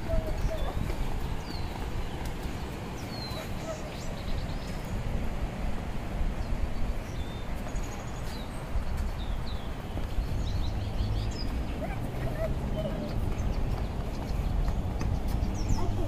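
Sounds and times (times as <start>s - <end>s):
small birds chirping: 0.0s - 5.4s, 6.3s - 16.0s.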